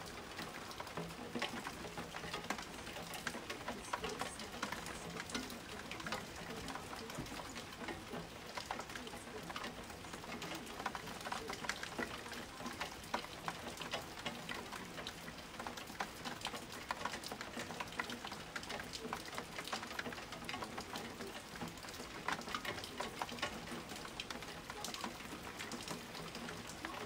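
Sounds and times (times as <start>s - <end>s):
rain hissing: 0.0s - 27.0s
raindrops ticking on surfaces: 0.0s - 27.0s.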